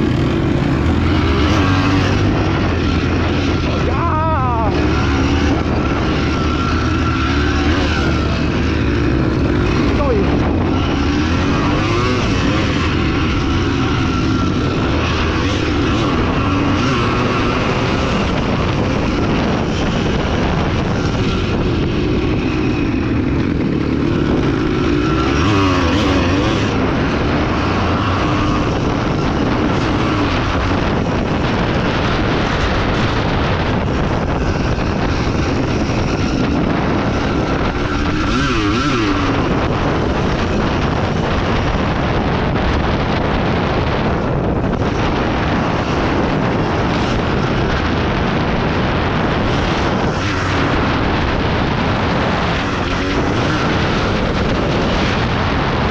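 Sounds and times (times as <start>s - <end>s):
motorcycle engine revving: 0.0s - 55.9s
steady rushing noise: 0.0s - 55.9s.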